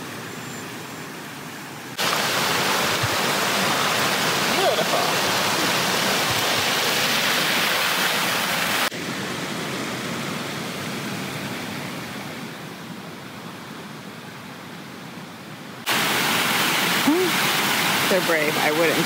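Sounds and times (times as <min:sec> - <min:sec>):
water rushing over spillway: 0:00.0 - 0:13.8, 0:15.8 - 0:19.0.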